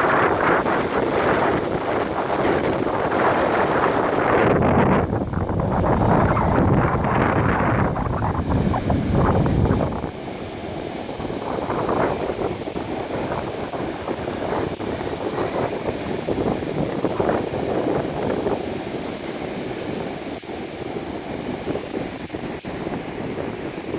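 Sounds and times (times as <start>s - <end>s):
rough surging water: 0.0s - 23.9s
wind buffeting microphone: 0.0s - 23.9s.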